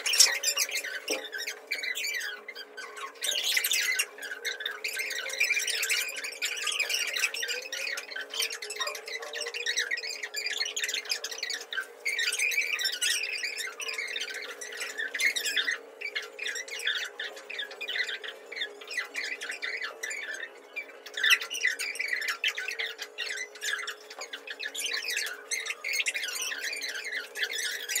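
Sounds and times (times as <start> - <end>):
birds chirping and squawking: 0.0 - 28.0.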